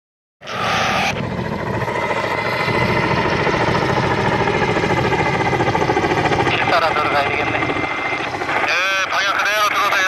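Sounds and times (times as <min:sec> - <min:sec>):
helicopter rotors pulsing: 0:00.4 - 0:10.0
turbine whine: 0:00.4 - 0:10.0.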